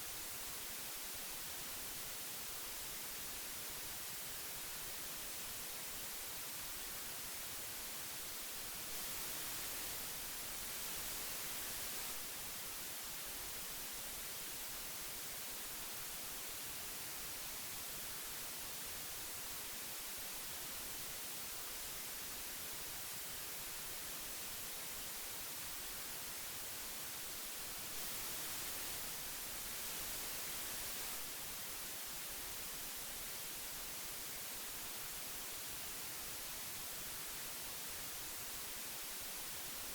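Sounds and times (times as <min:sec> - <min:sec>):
magnetic tape hiss: 0:00.0 - 0:39.9.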